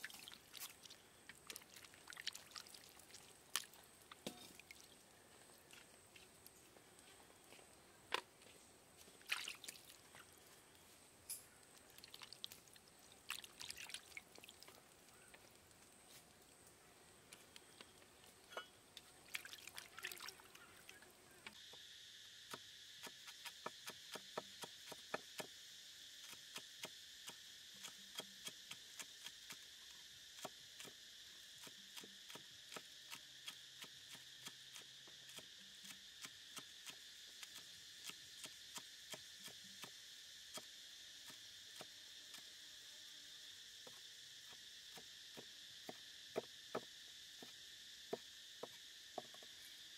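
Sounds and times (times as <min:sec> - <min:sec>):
high insect drone: 0:08.4 - 0:49.9.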